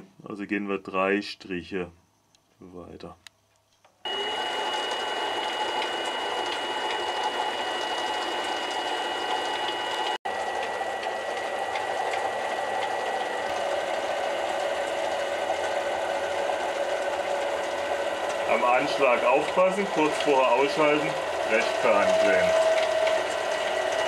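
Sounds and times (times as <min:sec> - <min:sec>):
lathe motor whining: 0:04.0 - 0:24.0.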